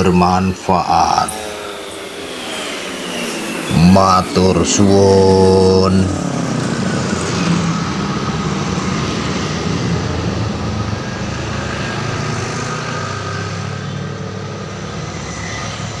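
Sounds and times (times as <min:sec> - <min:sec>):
truck engine passing: 0:00.0 - 0:16.0
motorcycle engine passing: 0:01.0 - 0:16.0.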